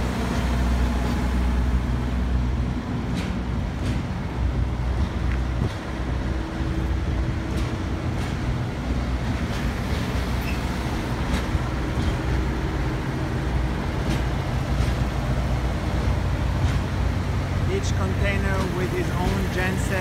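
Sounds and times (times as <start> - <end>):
diesel generators humming: 0.0 - 20.0.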